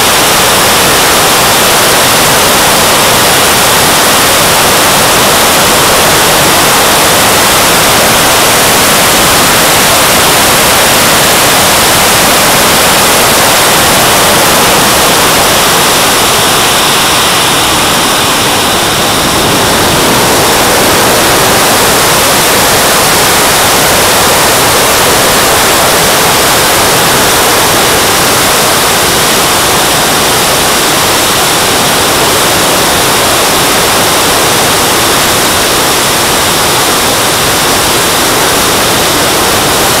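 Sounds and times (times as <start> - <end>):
jet turbine rushing: 0.0 - 40.0.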